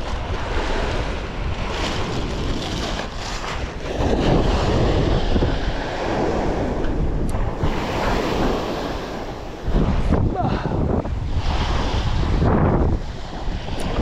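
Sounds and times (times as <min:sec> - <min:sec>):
sea water washing: 0:00.0 - 0:14.0
wind buffeting microphone: 0:00.0 - 0:14.0.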